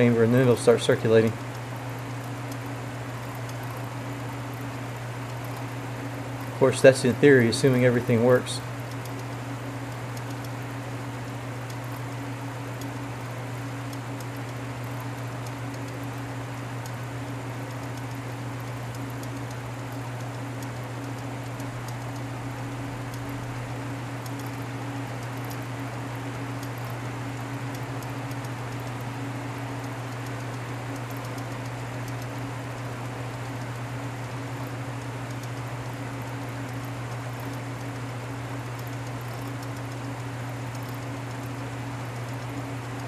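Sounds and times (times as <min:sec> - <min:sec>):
compressor low hum: 0:00.0 - 0:43.0.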